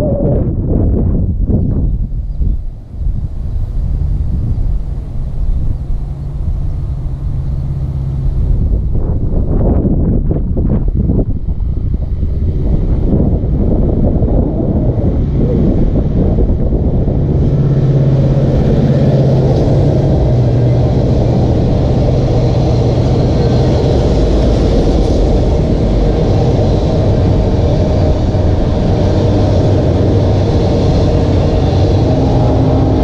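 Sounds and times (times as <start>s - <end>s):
freight train wheels rumbling: 0.0s - 33.0s
low drone: 0.0s - 33.0s.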